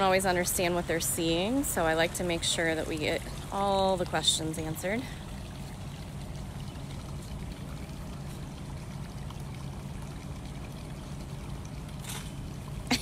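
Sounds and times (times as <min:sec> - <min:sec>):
faint low hum: 0:00.0 - 0:13.0
running pouring water: 0:00.0 - 0:13.0.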